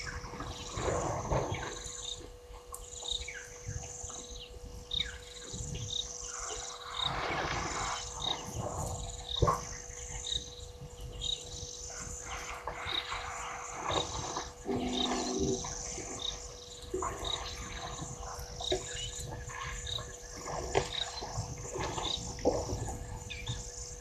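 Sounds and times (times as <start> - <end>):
faint hum: 0.0 - 24.0.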